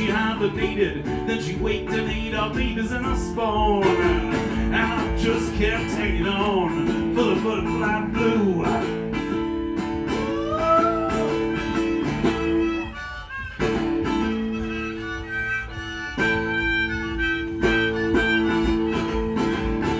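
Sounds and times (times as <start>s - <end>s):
acoustic guitar strumming: 0.0s - 19.9s
harmonica bent notes: 0.0s - 19.9s.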